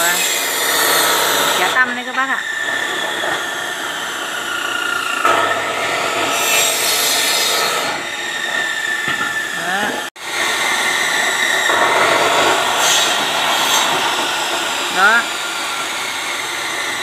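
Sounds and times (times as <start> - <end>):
chop saw cutting bamboo: 0.0 - 17.0.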